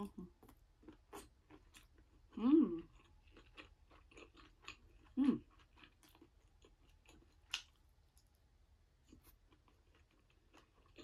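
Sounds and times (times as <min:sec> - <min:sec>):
chewing and mouth noises: 0:00.0 - 0:08.4, 0:09.0 - 0:11.0.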